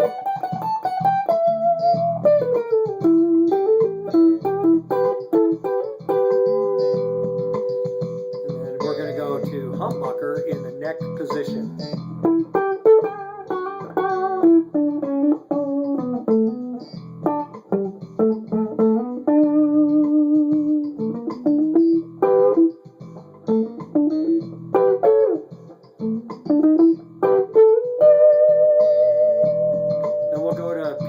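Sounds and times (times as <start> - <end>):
electric guitar single notes: 0.0 - 31.0.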